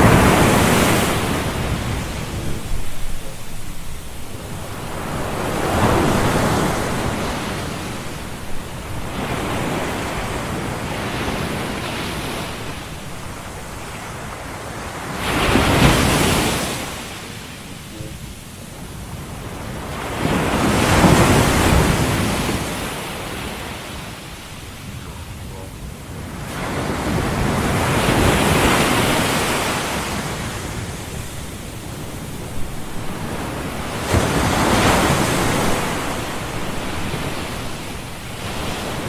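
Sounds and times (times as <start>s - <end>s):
ocean surf rushing: 0.0s - 39.0s.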